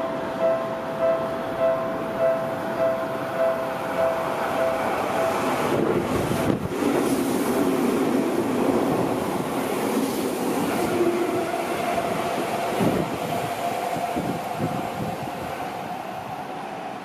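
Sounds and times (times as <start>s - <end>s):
train whine: 0.0s - 17.0s.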